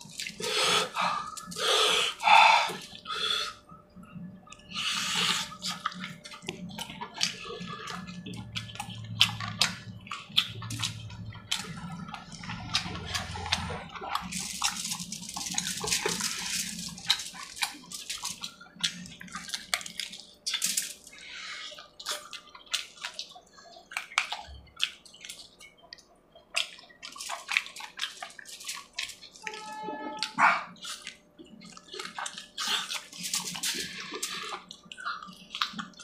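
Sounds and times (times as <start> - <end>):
wet chewing and lip-smacking: 0.0 - 36.0.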